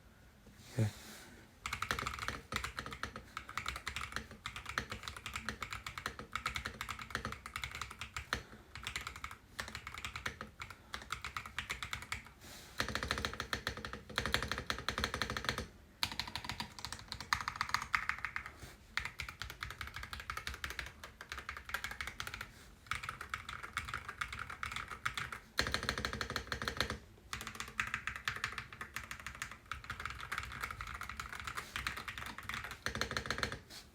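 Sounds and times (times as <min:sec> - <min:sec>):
fast typing on mechanical keyboard: 0:01.6 - 0:33.6.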